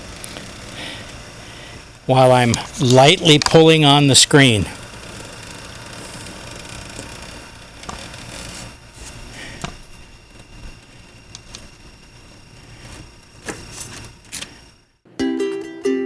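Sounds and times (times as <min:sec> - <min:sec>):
steady background hum: 0:00.0 - 0:15.2.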